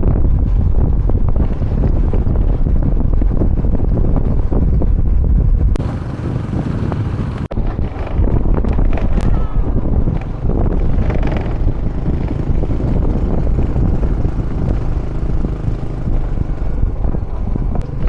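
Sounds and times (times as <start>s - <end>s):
engine and road rumble: 0.0s - 18.0s
vehicle ride rushing noise: 0.0s - 18.0s
wind buffeting microphone: 0.0s - 18.0s.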